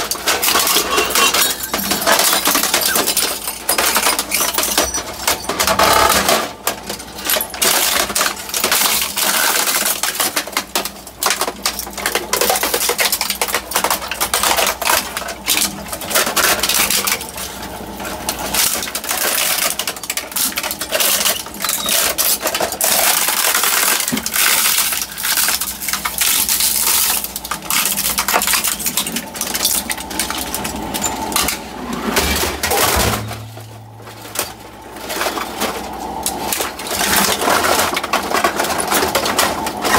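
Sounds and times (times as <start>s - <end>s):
shredder crunching plastic: 0.0s - 39.9s.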